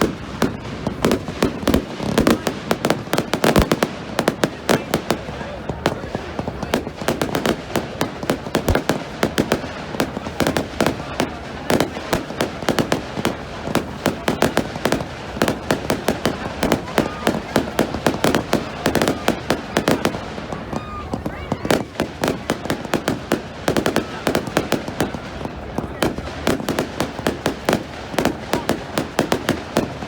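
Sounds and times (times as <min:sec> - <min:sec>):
fireworks cracking and banging: 0:00.0 - 0:30.0.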